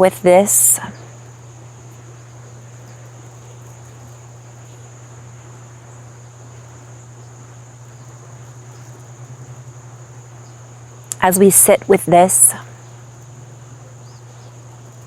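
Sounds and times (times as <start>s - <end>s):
constant low hum: 0.0s - 15.0s
insects trilling: 0.0s - 15.0s.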